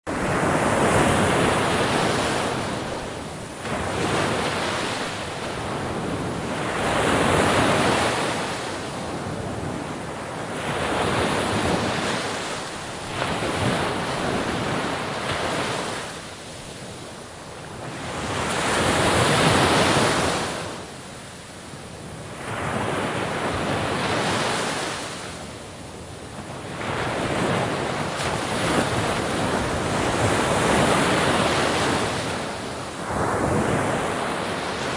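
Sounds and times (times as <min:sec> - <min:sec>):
wind on microphone: 0:00.1 - 0:20.9, 0:21.7 - 0:34.9
sea waves breaking on shore: 0:00.1 - 0:34.9.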